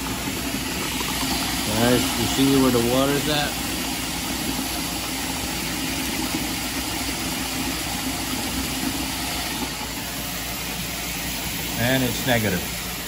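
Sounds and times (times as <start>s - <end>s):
pump humming: 0.0s - 13.0s
water flowing to drain: 0.0s - 13.0s.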